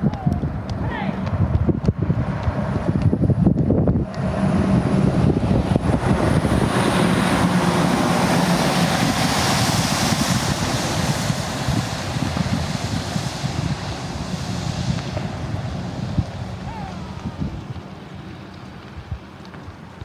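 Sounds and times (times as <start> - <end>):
vehicle engine and tyre noise: 0.0 - 20.0.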